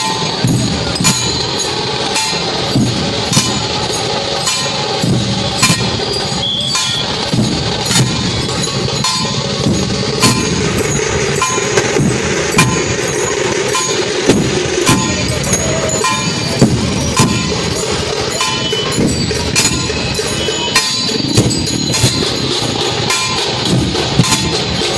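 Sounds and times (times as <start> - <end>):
crowd and music din: 0.0 - 24.9
drum beats: 0.0 - 24.9
ringing metal strikes: 0.0 - 24.9.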